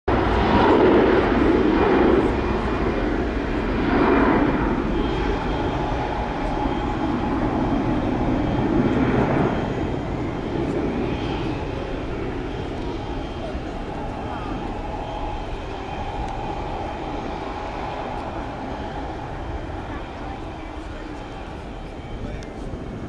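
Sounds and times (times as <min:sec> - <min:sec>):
jet engines of taxiing aircraft: 0:00.1 - 0:23.0
thin high steady whine: 0:00.2 - 0:23.0.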